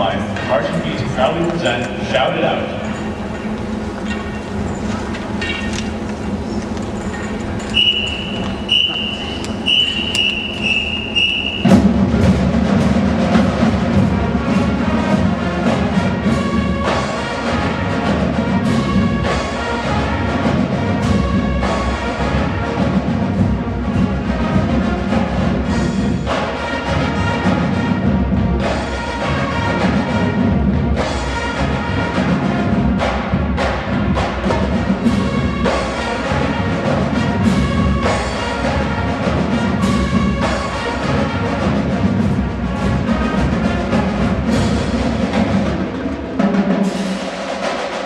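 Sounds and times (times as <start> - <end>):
drumline: 0.0 - 48.0
marching band playing: 0.0 - 48.0.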